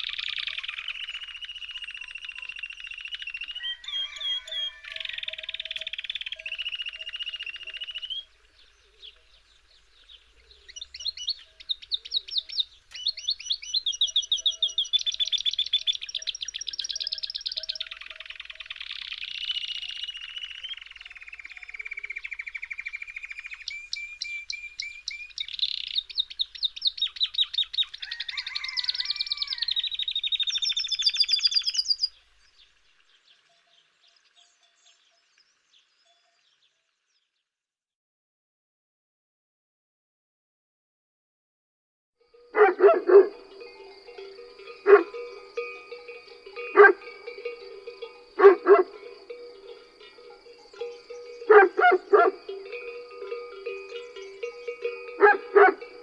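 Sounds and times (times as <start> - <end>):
songbird trilling and chirping: 0.0 - 37.2, 42.5 - 56.0.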